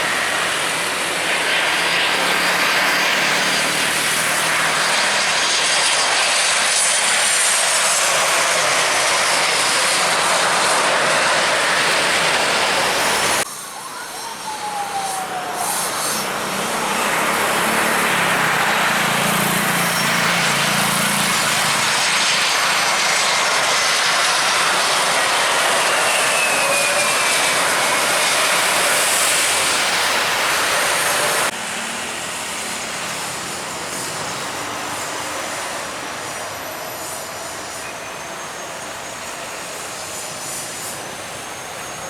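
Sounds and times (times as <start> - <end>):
jet engines roaring: 0.0 - 42.0
falling high whine: 7.2 - 42.0.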